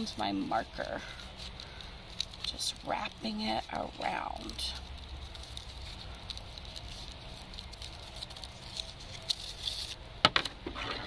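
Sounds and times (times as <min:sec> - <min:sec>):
aluminium foil crinkling: 0:00.0 - 0:10.2.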